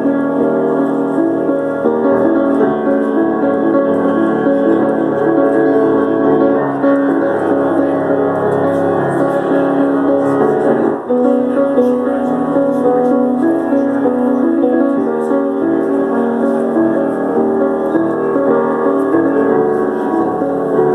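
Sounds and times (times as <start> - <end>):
piano playing held chords: 0.0 - 20.9.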